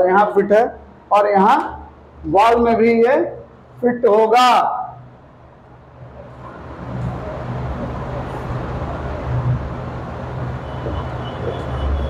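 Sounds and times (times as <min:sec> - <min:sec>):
steady rumbling background noise: 0:00.0 - 0:12.0.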